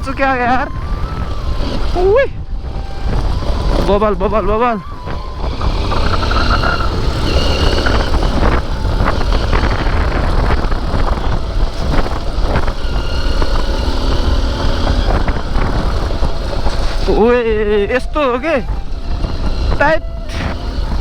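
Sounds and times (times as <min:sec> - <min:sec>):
dirt bike engine rumble: 0:00.0 - 0:21.0.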